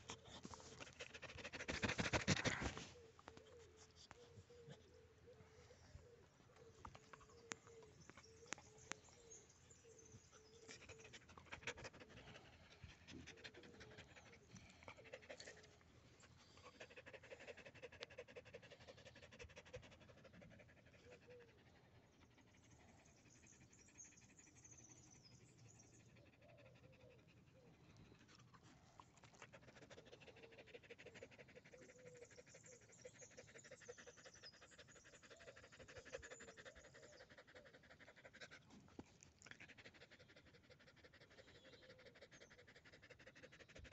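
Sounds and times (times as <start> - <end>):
dog panting: 0.0 - 3.3, 6.6 - 43.9.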